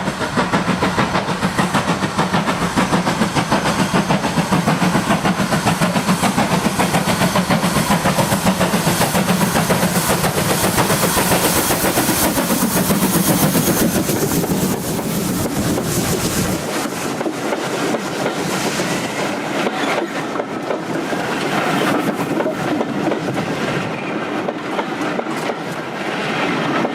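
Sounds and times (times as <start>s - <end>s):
locomotive running rumble: 0.0s - 26.1s
steam locomotive exhaust beats: 0.0s - 26.9s.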